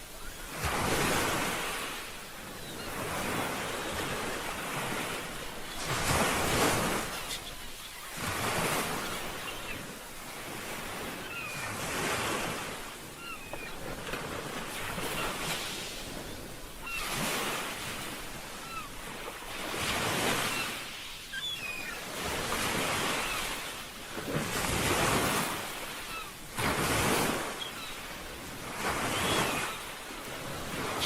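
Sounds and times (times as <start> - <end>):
waves breaking: 0.0 - 31.0.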